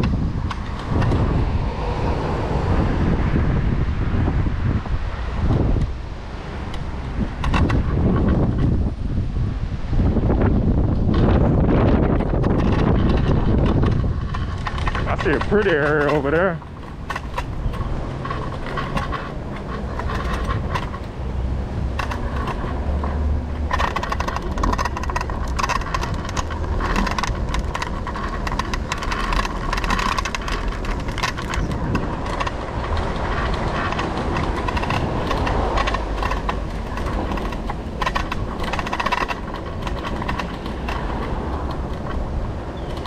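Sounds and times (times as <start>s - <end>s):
scooter wheels rattling on bricks: 0.0s - 9.0s, 10.0s - 43.0s
electric scooter whine: 0.0s - 43.0s.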